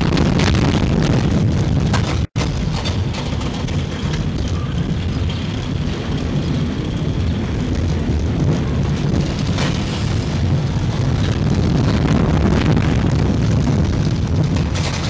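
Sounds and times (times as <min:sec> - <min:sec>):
roller coaster wheels rumbling: 0:00.0 - 0:15.0
wind on microphone: 0:00.0 - 0:15.0.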